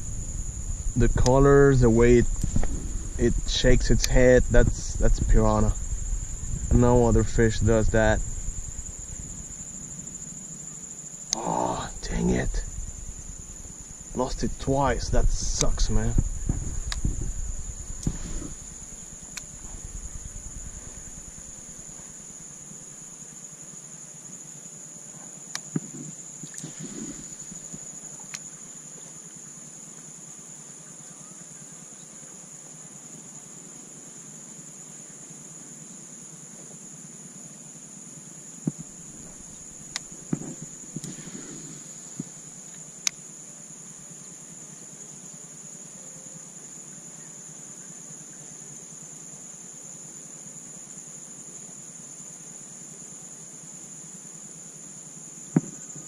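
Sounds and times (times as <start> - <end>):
insect chorus droning: 0.0 - 56.0.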